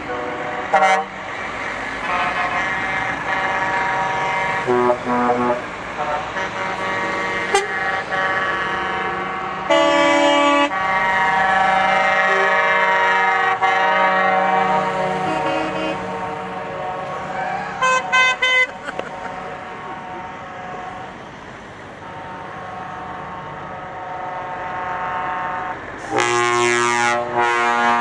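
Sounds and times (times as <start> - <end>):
truck air horns: 0.0 - 21.4, 22.0 - 28.0
truck engines running: 0.0 - 28.0.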